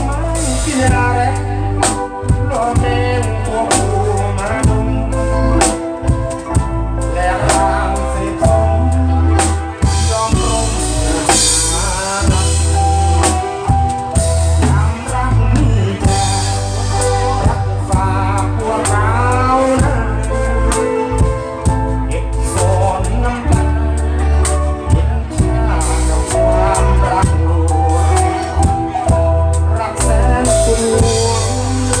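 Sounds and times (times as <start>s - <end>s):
live band music: 0.0s - 32.0s.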